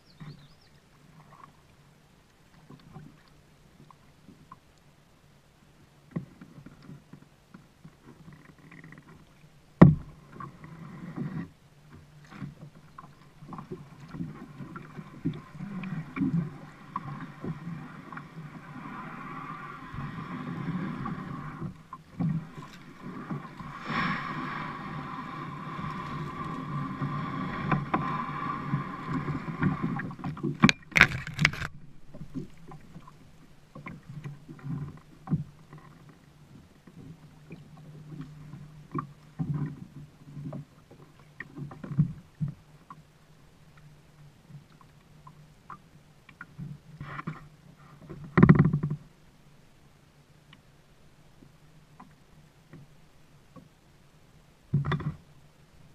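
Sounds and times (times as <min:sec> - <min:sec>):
water sloshing along kayak hull: 0:00.0 - 0:55.9.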